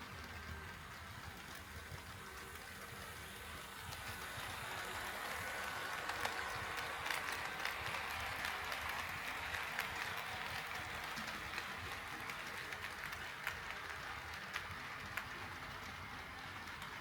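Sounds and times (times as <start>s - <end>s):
model train wheels rattling: 0.0s - 17.0s.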